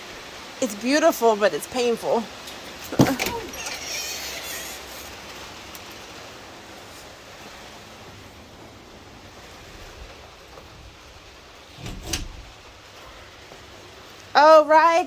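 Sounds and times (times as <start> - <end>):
rain on a greenhouse roof: 0.0 - 15.0.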